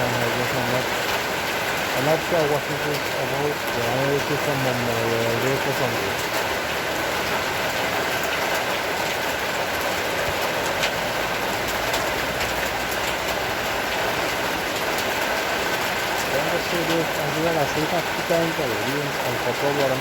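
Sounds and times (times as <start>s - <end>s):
heavy rain hissing: 0.0s - 20.0s
raindrops tapping: 0.0s - 20.0s.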